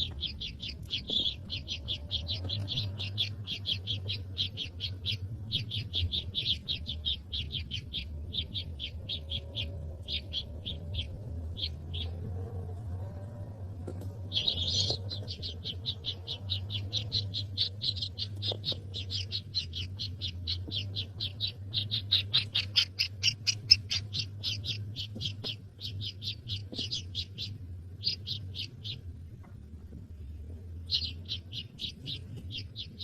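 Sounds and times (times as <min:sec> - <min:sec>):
baby bird chirping: 0:00.0 - 0:12.2, 0:14.3 - 0:29.0, 0:30.8 - 0:33.0
faint low hum: 0:00.0 - 0:33.0.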